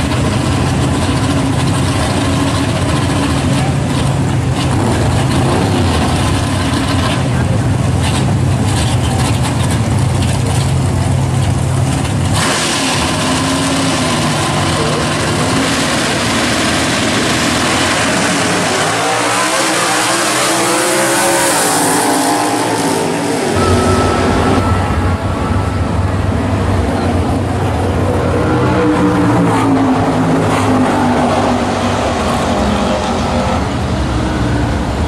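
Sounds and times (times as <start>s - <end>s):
drag car engines revving: 0.0s - 35.0s.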